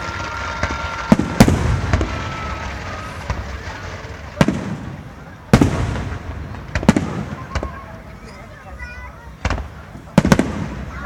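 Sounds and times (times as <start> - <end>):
fireworks booming: 0.0 - 11.0.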